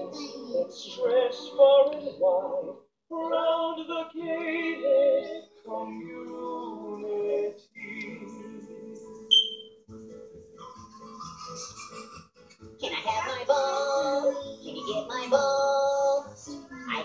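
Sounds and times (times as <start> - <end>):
voices singing: 0.0 - 9.5, 12.8 - 17.0.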